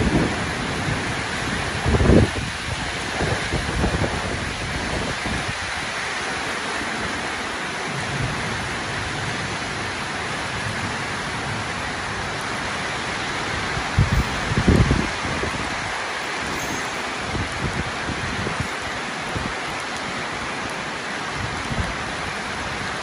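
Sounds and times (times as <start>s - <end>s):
rain on a metal roof: 0.0s - 23.0s.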